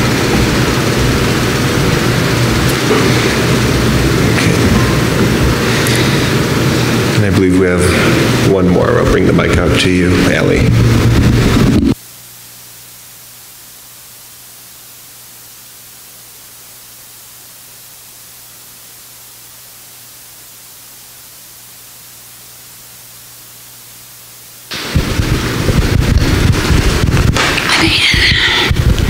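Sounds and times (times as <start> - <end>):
sound system hiss: 0.0 - 29.0.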